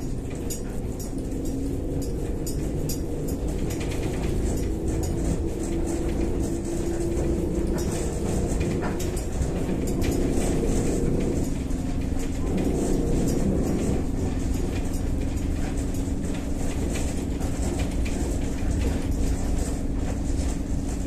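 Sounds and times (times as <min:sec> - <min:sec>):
light clicks and rattles: 0:00.0 - 0:21.0
trolleybus running rumble: 0:00.0 - 0:21.0.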